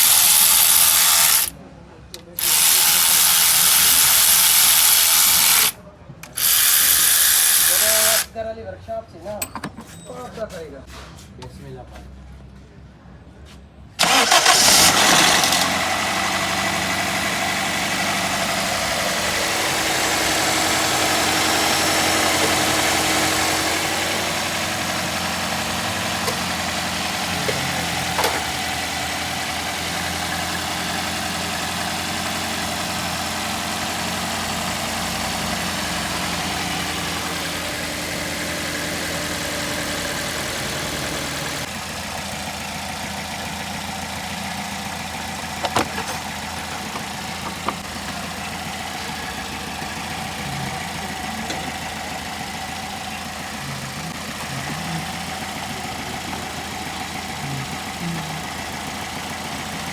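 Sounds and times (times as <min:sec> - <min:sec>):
petrol engine idling: 0:00.0 - 0:08.5, 0:14.0 - 0:59.9.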